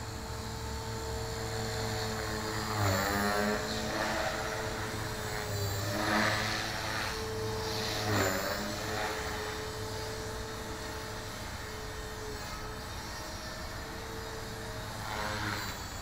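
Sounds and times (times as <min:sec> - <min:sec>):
rc helicopter motor whine: 0:00.0 - 0:16.0.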